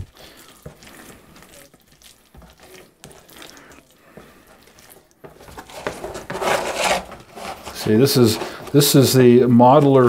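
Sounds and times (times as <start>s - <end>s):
wet clay squelching: 0.0s - 10.0s.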